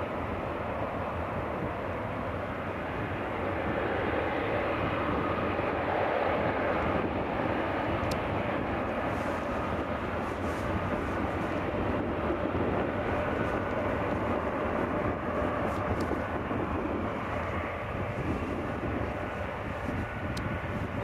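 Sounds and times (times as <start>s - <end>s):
jet engines taxiing: 0.0s - 21.0s.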